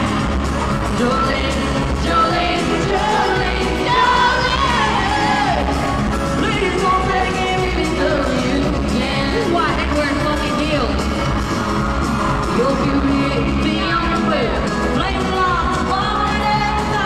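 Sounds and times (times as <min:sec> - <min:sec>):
woman singing: 0:00.0 - 0:11.0, 0:12.5 - 0:17.0
acoustic guitar: 0:00.0 - 0:17.0
backing singer: 0:00.0 - 0:17.0
drums: 0:00.0 - 0:17.0
upright bass: 0:00.0 - 0:17.0.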